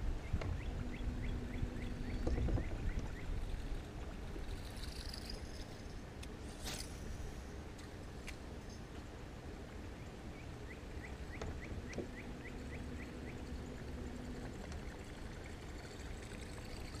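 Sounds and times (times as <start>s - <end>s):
water and wind around a boat: 0.0s - 17.0s.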